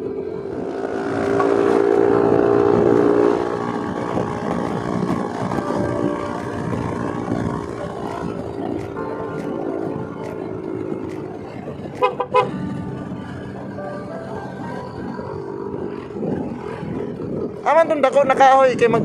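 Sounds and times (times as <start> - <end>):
scooter engine running: 0.0 - 18.3
wind rushing over microphone: 0.0 - 19.0.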